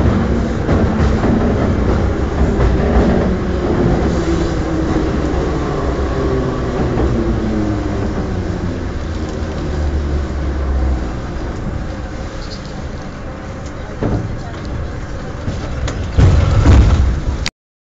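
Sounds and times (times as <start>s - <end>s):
metro train rumble and hum: 0.0s - 17.5s.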